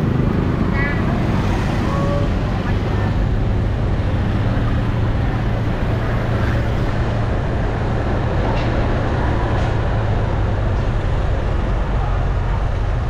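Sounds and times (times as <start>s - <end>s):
engine hum: 0.0s - 13.0s
road noise: 0.0s - 13.0s.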